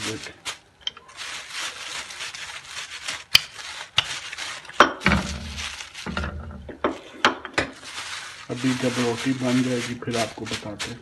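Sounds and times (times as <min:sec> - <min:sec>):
plastic bags crinkling: 0:00.0 - 0:06.7, 0:07.6 - 0:11.0.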